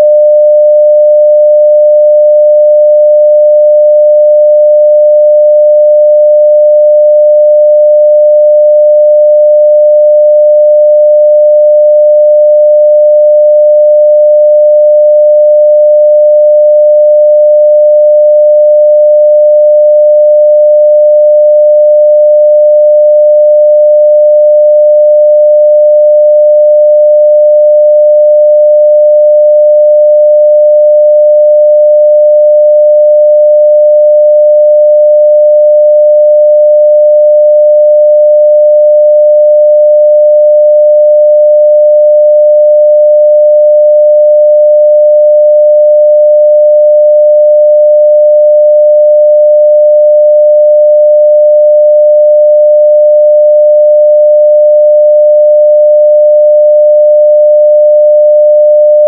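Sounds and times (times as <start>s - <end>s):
sine wave test tone: 0.0s - 59.0s.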